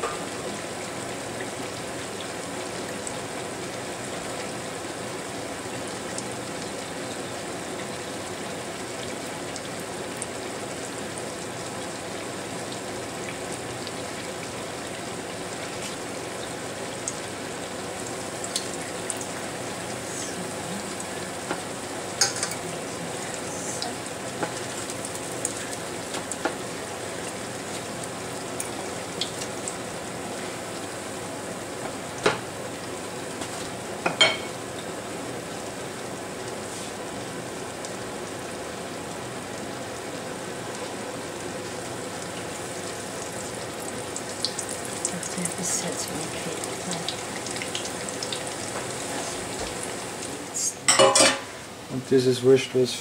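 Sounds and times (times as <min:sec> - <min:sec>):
pastries sizzling in hot fat: 0:00.0 - 0:53.0.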